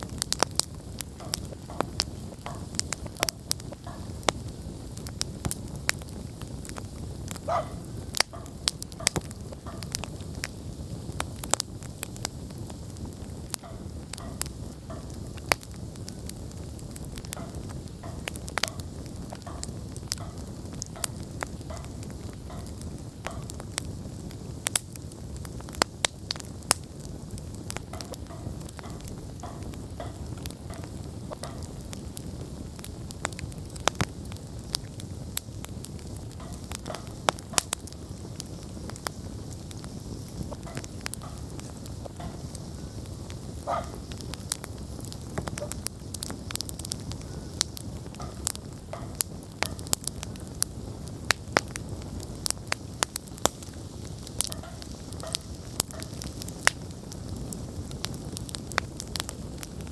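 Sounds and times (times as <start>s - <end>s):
campfire flame rush: 0.0s - 59.9s
fire crackling and popping: 0.0s - 59.9s.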